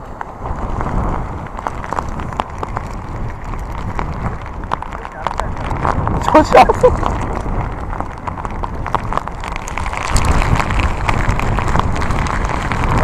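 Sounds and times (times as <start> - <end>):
rain drops clicking on microphone: 0.0 - 13.0
wind buffeting microphone: 0.0 - 13.0.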